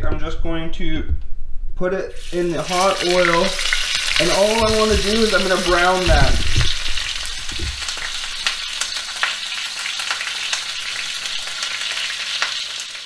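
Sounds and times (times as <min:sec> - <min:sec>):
meat frying in oil: 0:02.1 - 0:13.0.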